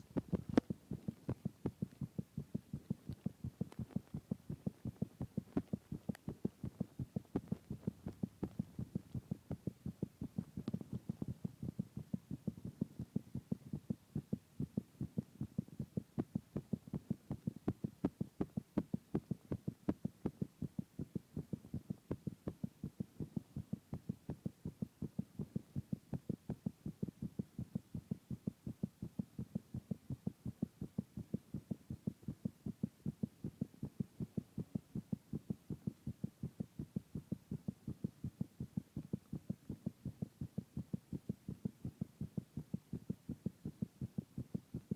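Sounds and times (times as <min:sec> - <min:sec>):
heartbeat thumps: 0:00.0 - 0:44.9.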